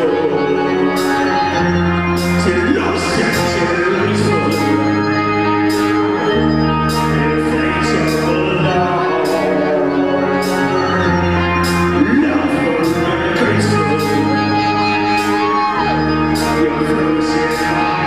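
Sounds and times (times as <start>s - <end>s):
keyboard chords: 0.0s - 18.0s
low bass notes: 0.0s - 18.0s
man singing: 0.0s - 18.0s.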